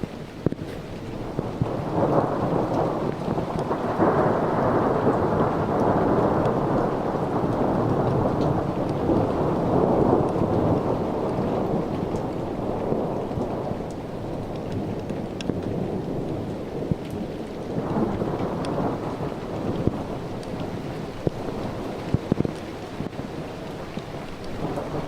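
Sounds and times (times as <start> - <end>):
rain falling: 0.0 - 25.0
rolling thunder: 0.0 - 25.0.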